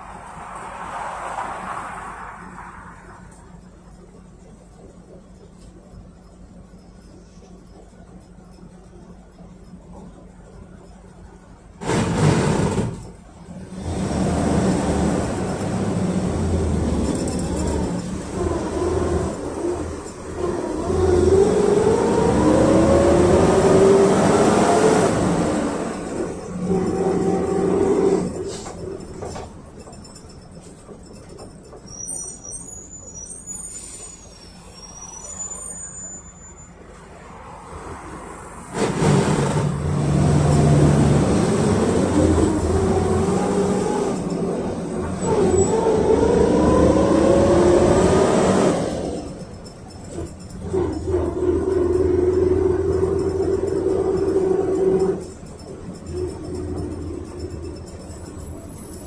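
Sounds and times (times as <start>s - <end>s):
bus engine whine accelerating: 0.0s - 29.9s, 33.0s - 59.0s.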